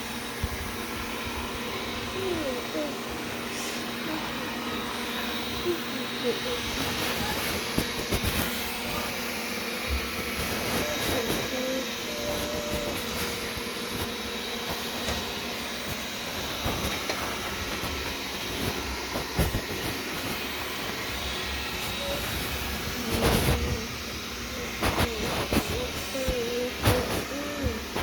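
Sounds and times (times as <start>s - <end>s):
robot vacuum whirring: 0.0s - 28.0s.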